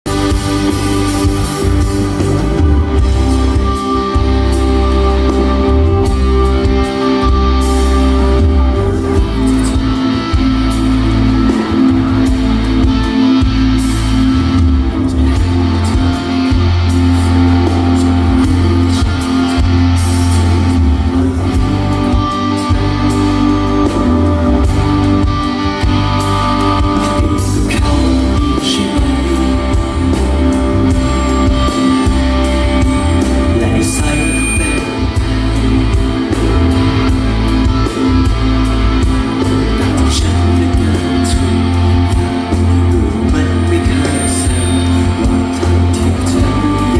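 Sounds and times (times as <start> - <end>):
live band music: 0.0 - 46.9.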